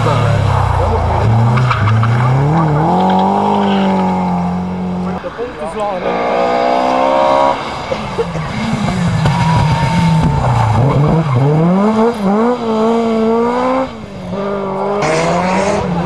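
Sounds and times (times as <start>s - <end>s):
rally car engine passing: 0.0s - 16.0s.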